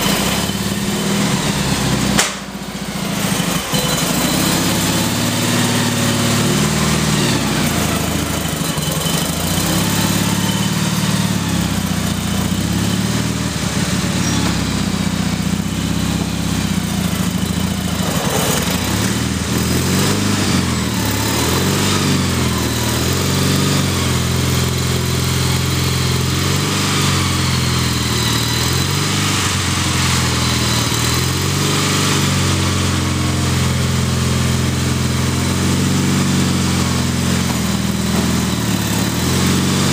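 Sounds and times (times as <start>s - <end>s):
riding tractor engine under load: 0.0s - 39.9s.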